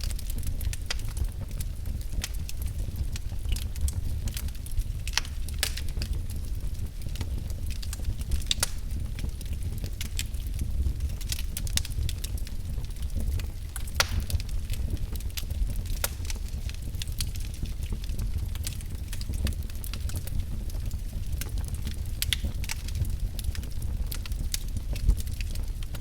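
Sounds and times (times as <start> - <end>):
fire crackles and pops: 0.0 - 26.0
fire flames rumbling: 0.0 - 26.0.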